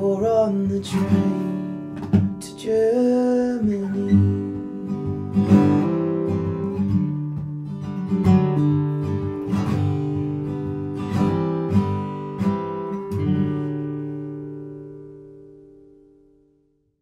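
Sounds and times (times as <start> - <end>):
acoustic guitar strumming: 0.0 - 16.6.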